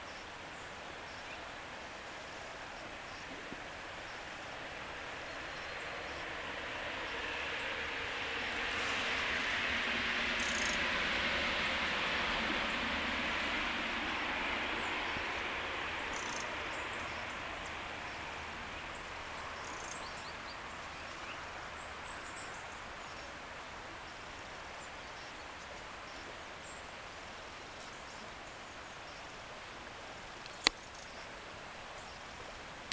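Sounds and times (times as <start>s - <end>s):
broad rushing noise: 0.0s - 28.3s.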